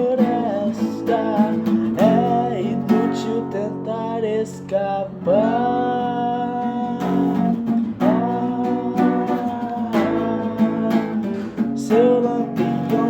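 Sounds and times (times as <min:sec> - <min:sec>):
person singing long notes: 0:00.0 - 0:13.0
strummed acoustic guitar: 0:00.0 - 0:13.0.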